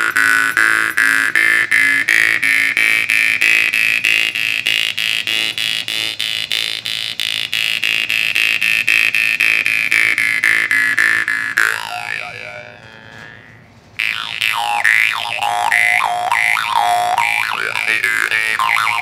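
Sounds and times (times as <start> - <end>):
jaw harp twanging: 0.0 - 19.0.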